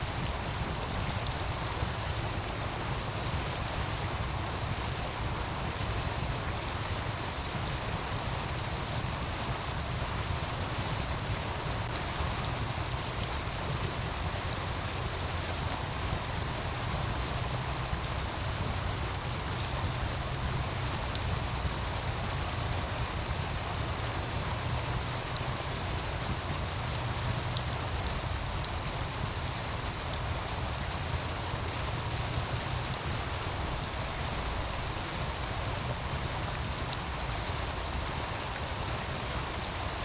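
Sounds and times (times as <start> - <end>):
stream rushing: 0.0 - 40.0
wood fire crackling and popping: 0.0 - 40.0.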